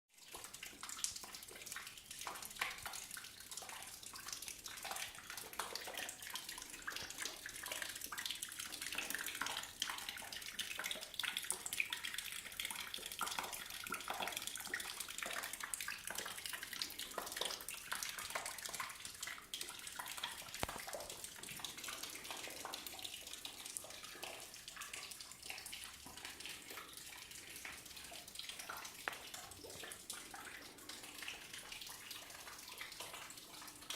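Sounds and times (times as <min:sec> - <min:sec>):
water dripping: 0:00.2 - 0:33.9
water running and splashing: 0:00.2 - 0:33.9.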